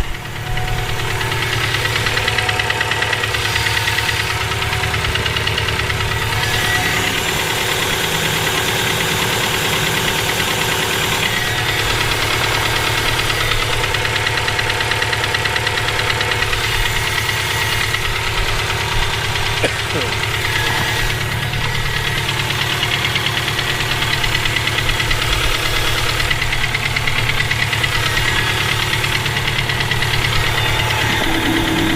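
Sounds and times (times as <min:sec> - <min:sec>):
engine running with knocking: 0:00.0 - 0:31.9.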